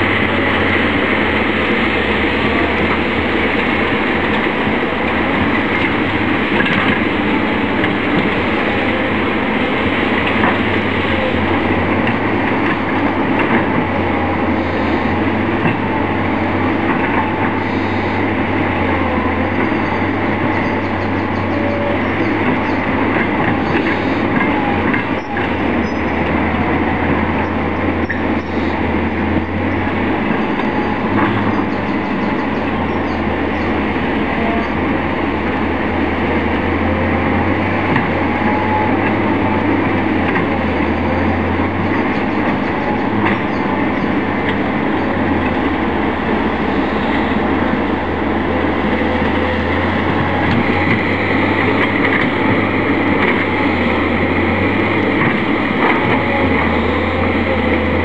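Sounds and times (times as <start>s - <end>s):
excavator working: 0.0s - 58.0s
locomotive diesel engine idling: 0.0s - 58.0s.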